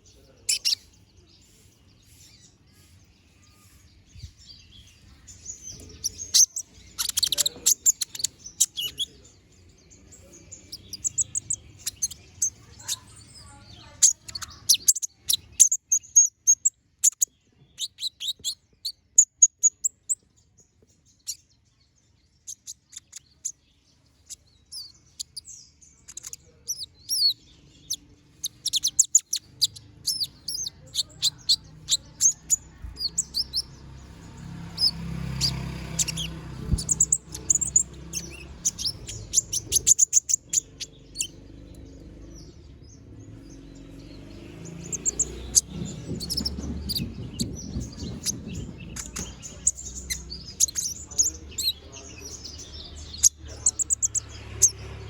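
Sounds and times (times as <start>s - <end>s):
sunbird chirps and trills: 0.0s - 55.0s.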